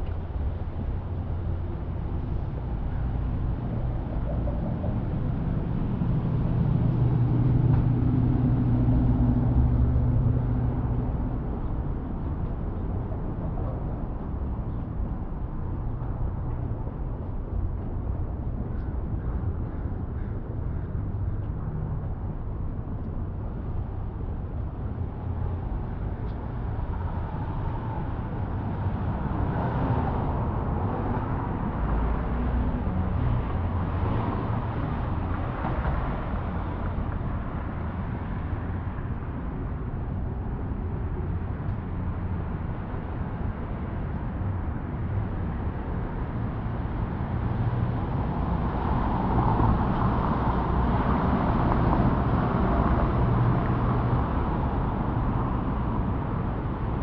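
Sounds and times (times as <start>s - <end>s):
cars passing: 0.0s - 57.0s
low traffic rumble: 0.0s - 57.0s.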